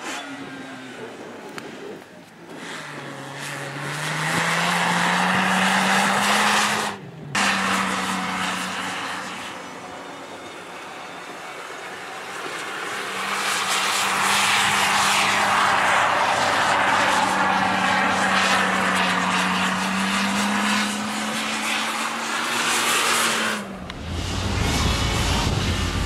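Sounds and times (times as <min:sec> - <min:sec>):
truck engine at high revs: 0:00.0 - 0:26.0
deep engine sound: 0:02.8 - 0:26.0.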